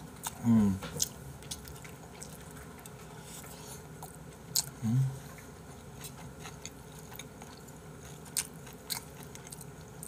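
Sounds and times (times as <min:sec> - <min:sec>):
faint chewing: 0:00.1 - 0:10.0.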